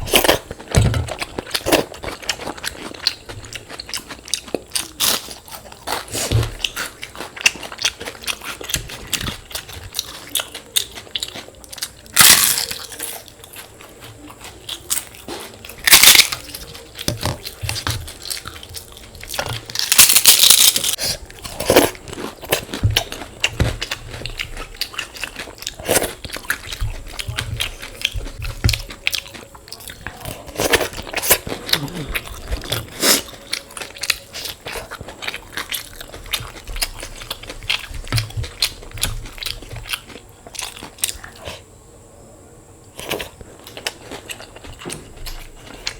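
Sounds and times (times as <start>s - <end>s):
chewing crunchy fried food: 0.0s - 41.7s, 42.9s - 45.9s.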